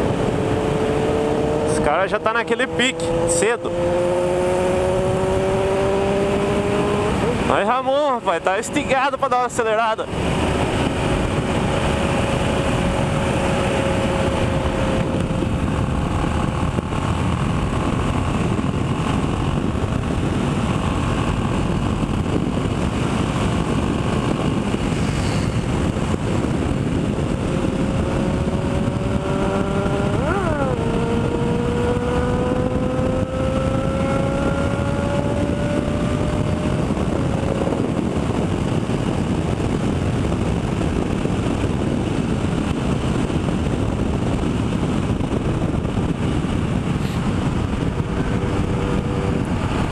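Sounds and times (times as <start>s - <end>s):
motorcycle engine accelerating: 0.0s - 49.9s
wind and road noise: 0.0s - 49.9s.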